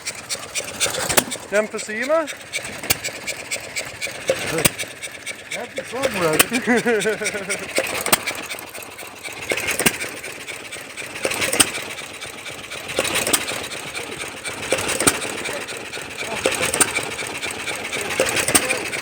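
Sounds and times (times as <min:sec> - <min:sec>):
faint engine clicks: 0:00.0 - 0:19.0
stationary engine knocking: 0:00.0 - 0:19.0.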